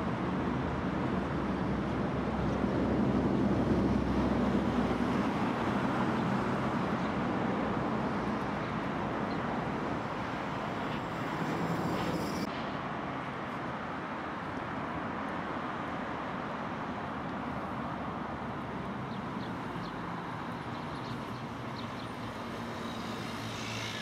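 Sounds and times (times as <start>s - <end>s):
distant road traffic rumble: 0.0s - 24.0s.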